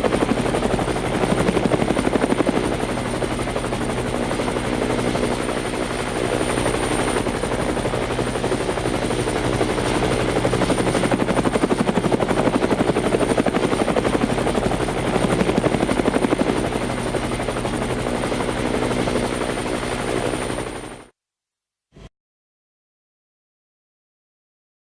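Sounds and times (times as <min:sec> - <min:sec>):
helicopter engine whine: 0:00.0 - 0:21.1
helicopter rotor blades chopping: 0:00.0 - 0:21.1.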